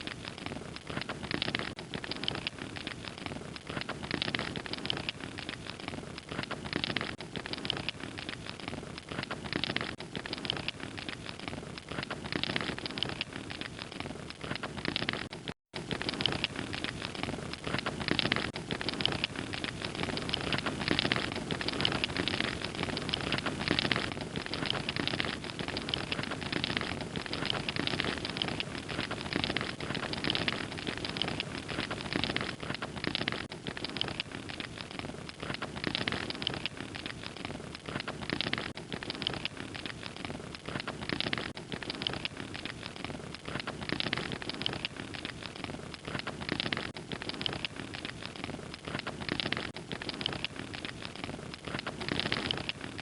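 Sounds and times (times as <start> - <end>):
soft rushing of flame: 0.0 - 53.0
wood fire crackling and popping: 0.0 - 53.0.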